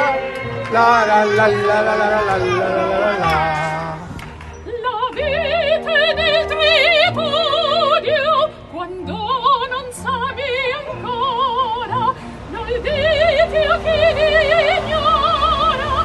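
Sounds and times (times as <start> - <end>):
operatic singing with vibrato: 0.0 - 16.0.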